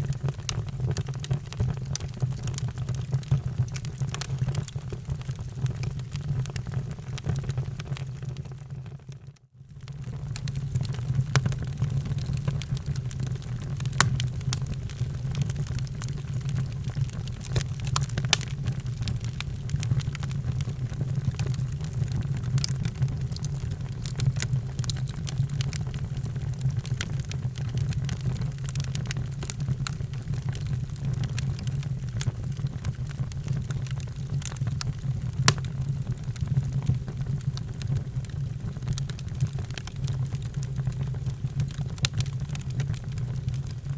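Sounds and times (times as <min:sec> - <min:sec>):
wood fire crackling: 0:00.1 - 0:08.0, 0:10.0 - 0:43.9
fire pops and snaps: 0:00.3 - 0:08.5, 0:10.0 - 0:43.9.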